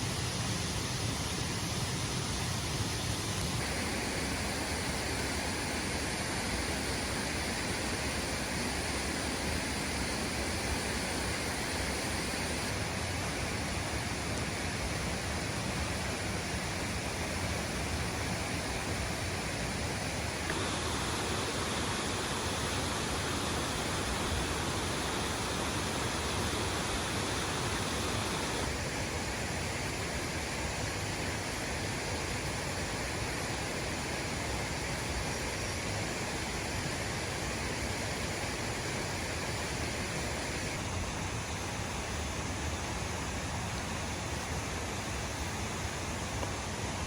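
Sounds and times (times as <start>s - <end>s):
waterfall roaring: 3.1s - 47.0s.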